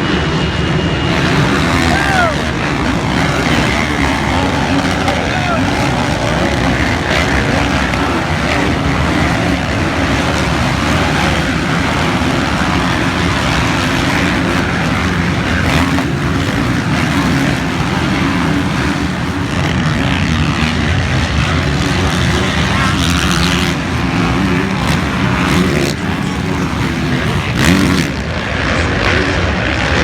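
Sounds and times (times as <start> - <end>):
dirt bike engines running: 0.0 - 30.0.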